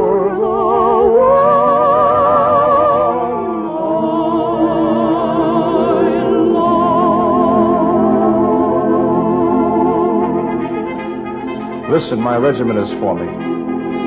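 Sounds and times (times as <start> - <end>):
operatic singing: 0.0 - 14.0
orchestra playing: 0.0 - 14.0.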